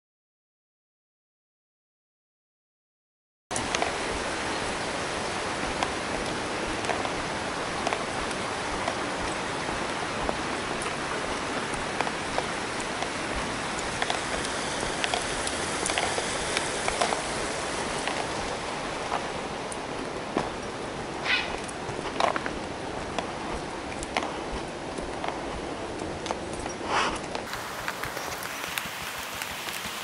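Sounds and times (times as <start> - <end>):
creek rushing over rocks: 3.5 - 30.0
footsteps on gravel: 3.6 - 30.0.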